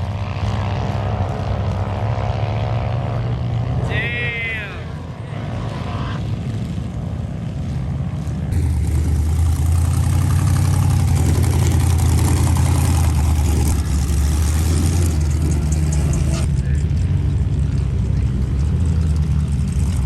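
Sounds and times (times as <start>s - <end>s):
vehicle engine low drone: 0.0s - 20.0s.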